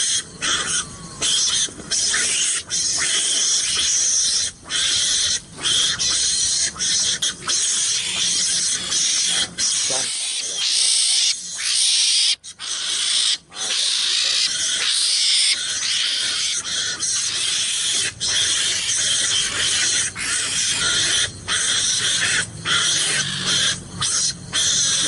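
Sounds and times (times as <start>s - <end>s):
animal hissing harshly: 0.0s - 25.0s.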